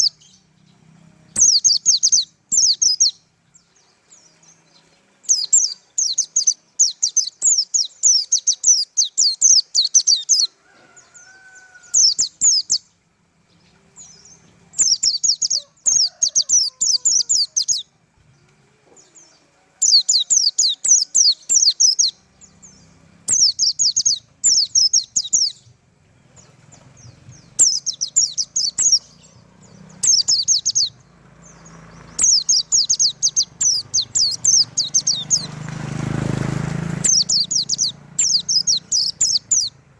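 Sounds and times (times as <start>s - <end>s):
bird singing rapid high notes: 0.0s - 10.6s, 11.9s - 13.0s, 13.7s - 18.0s, 19.8s - 25.7s, 26.4s - 39.8s.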